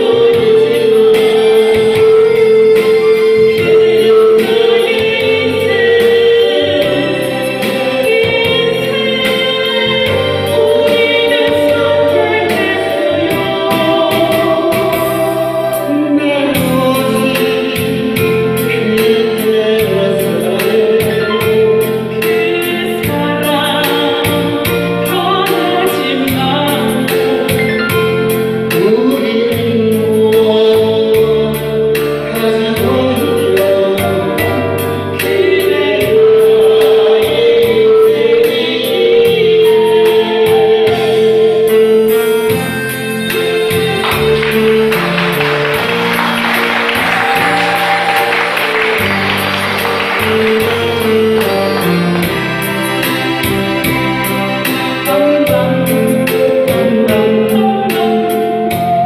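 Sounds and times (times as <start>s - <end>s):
man and woman singing duet: 0.0s - 54.0s, 55.0s - 59.0s
backing track with steady beat: 0.0s - 59.0s.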